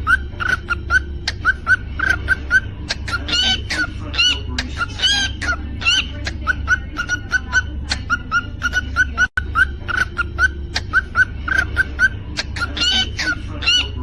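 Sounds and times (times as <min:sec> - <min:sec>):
cockatiel chirping and whistling: 0:00.0 - 0:14.0
steady low hum: 0:00.0 - 0:14.0.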